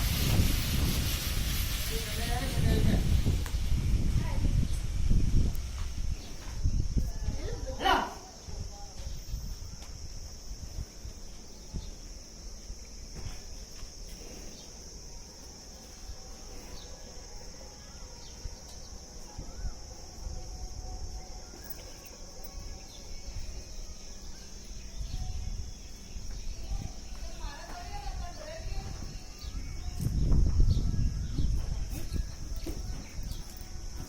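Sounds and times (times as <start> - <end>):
insects droning: 0.0 - 34.0
low rumble of outdoor noise: 0.0 - 34.0.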